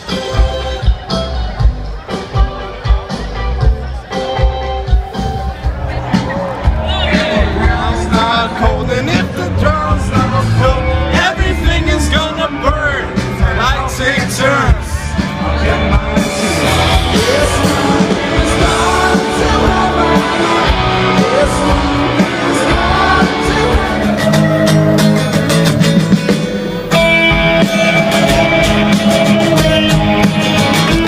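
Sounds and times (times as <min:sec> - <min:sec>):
rock music with singing: 0:00.0 - 0:31.0.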